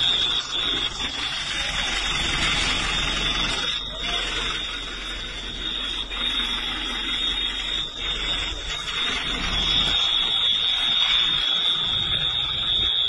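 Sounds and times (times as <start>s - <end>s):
high-pitched tone: 0.0s - 13.0s.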